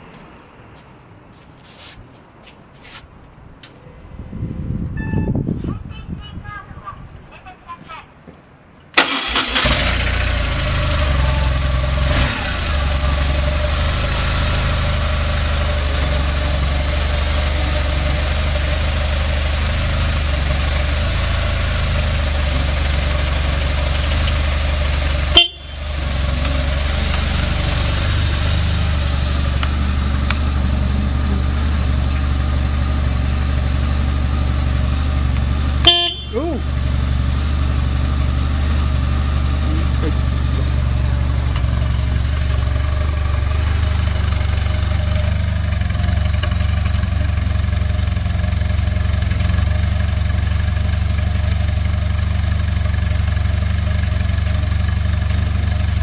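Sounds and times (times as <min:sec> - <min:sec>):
motorcycle engine starting and idling: 0:08.9 - 0:56.0.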